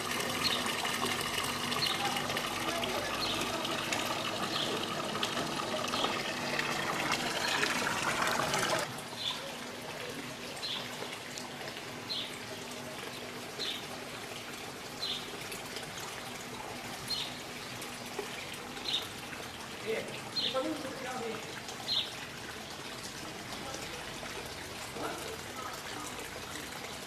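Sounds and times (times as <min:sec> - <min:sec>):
running water trickling: 0:00.0 - 0:27.0.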